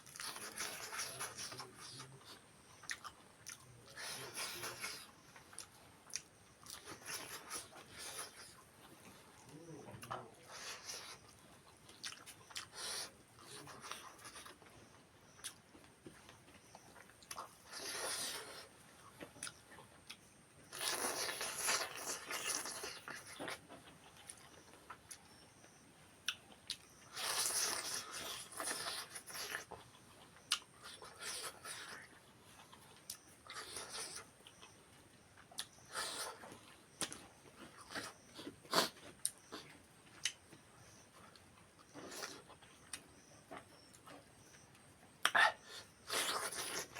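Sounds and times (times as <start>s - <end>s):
chewing and mouth noises: 0.0s - 46.9s.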